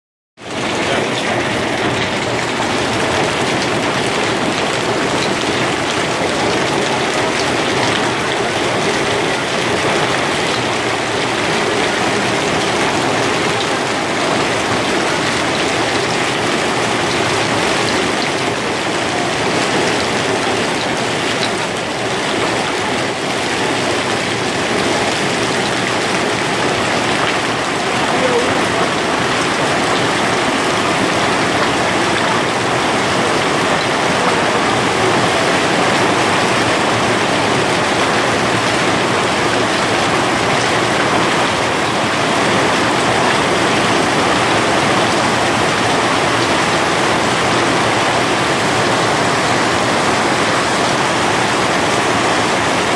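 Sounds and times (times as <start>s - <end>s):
heavy hail and rain pelting: 0.4s - 52.9s.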